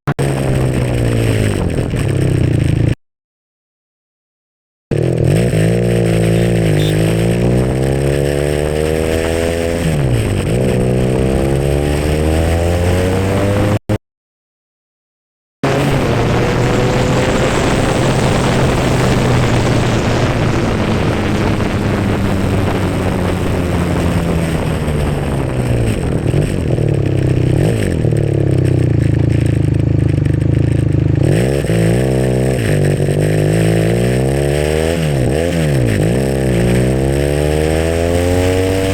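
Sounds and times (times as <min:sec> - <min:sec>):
motorcycle engine revving: 0:00.0 - 0:03.0, 0:04.9 - 0:14.0, 0:15.6 - 0:38.9.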